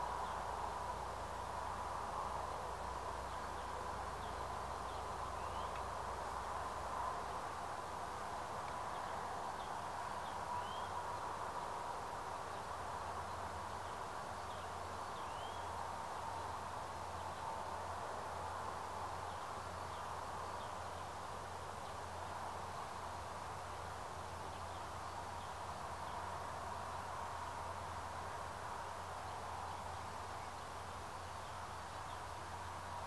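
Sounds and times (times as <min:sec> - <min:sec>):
outdoor hiss: 0:00.0 - 0:33.0.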